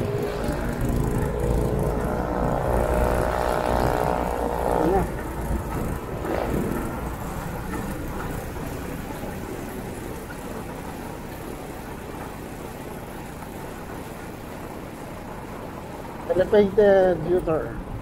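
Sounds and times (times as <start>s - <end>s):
motorcycle engine: 0.0s - 16.7s
road noise: 0.0s - 18.0s.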